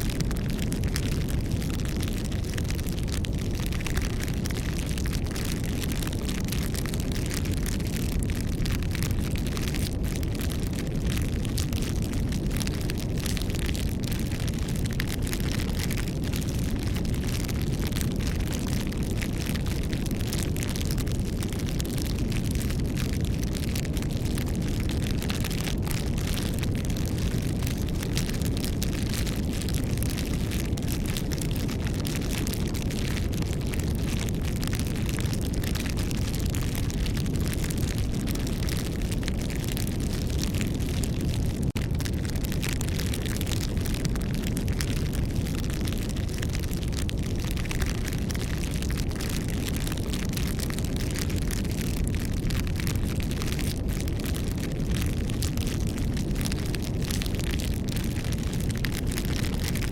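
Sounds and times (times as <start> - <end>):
burning wood crackling and popping: 0.0 - 59.9
campfire flames rushing: 0.0 - 59.9.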